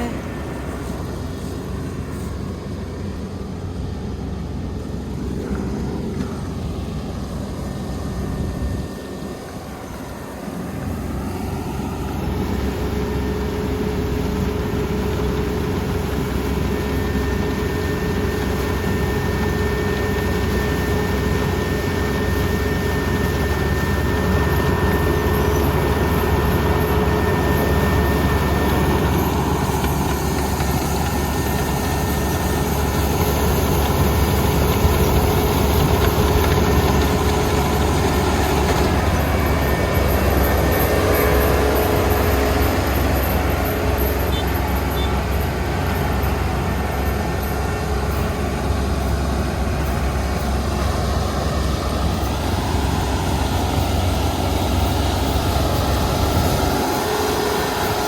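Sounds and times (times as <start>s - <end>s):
combine harvester engine running: 0.0s - 58.0s
steady whine: 0.0s - 58.0s.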